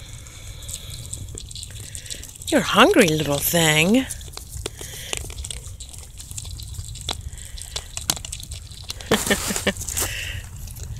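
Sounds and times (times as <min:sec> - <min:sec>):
deer crunching corn kernels: 0:00.0 - 0:10.9.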